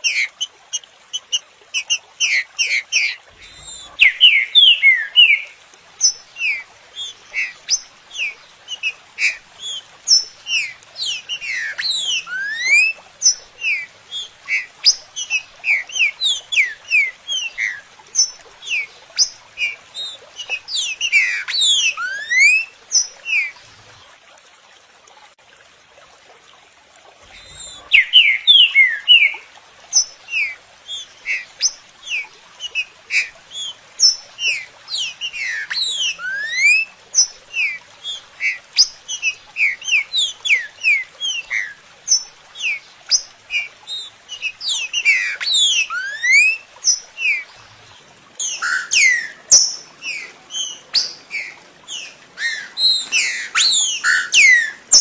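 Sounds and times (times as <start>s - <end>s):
bird song whistled notes: 2.2s - 23.5s, 27.3s - 47.4s, 48.4s - 55.0s.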